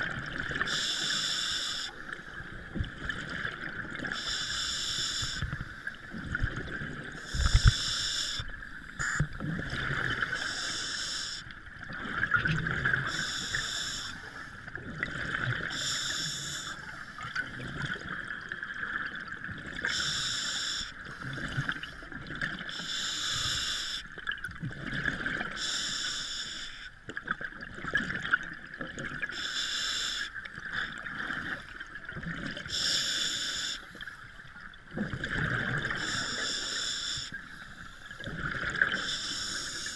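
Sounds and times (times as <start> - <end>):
exhaled bubbles underwater: 0.0 - 1.2, 1.8 - 20.4, 21.0 - 22.9, 24.2 - 25.7, 27.1 - 29.4, 30.4 - 39.9
steady underwater hiss: 0.0 - 18.1, 18.8 - 24.2, 25.1 - 27.0, 29.0 - 34.7, 35.3 - 39.9.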